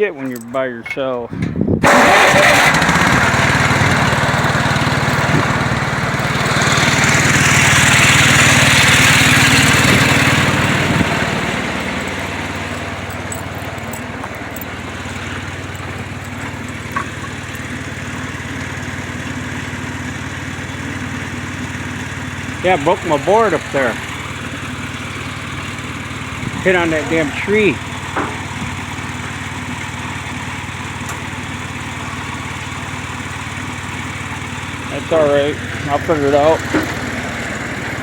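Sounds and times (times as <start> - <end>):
van engine starting and idling: 1.0 - 38.0.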